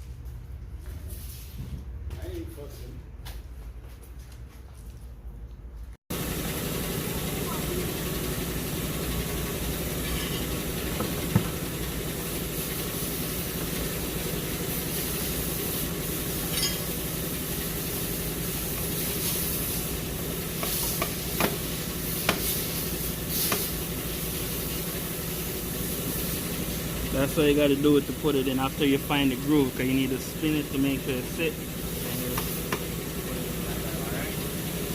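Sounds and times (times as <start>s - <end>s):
mechanical hum: 0.0s - 34.9s.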